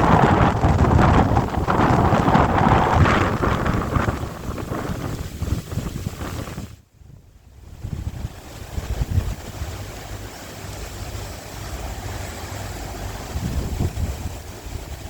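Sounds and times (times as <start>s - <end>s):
wind gusting over microphone: 0.0s - 15.0s.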